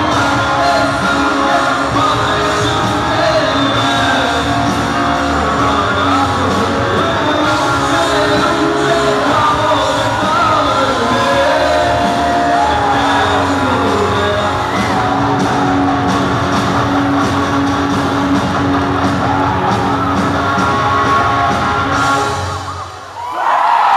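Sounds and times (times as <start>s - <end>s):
bass guitar: 0.0s - 23.0s
electric guitars: 0.0s - 23.0s
drums: 0.0s - 23.9s.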